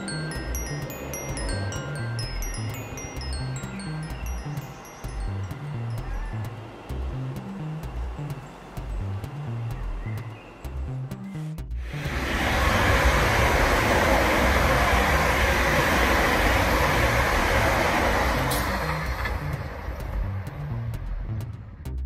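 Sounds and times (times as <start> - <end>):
wheels rushing on rail: 0.0 - 21.9
electric train passing at speed: 0.0 - 22.0.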